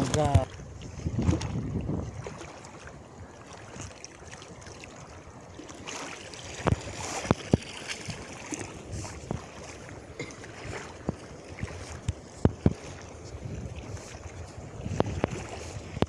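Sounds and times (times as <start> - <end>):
wind on microphone: 0.0 - 3.9, 6.4 - 16.0
feet splashing in water: 0.0 - 16.0
lapping shallow water: 0.0 - 16.0.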